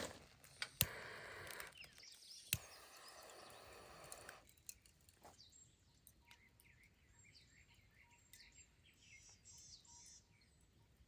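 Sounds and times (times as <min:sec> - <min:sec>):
birds chirping and trilling: 0:00.4 - 0:11.0.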